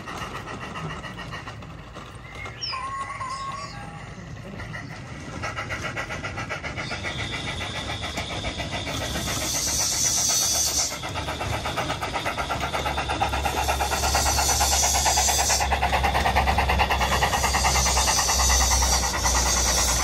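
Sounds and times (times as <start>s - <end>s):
model steam locomotive chuffs: 0.0s - 20.0s
steam hiss: 0.0s - 20.0s.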